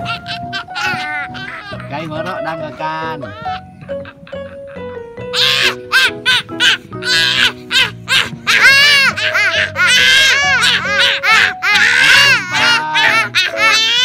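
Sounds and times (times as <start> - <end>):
background music: 0.0 - 14.0
children laughing: 0.0 - 14.0.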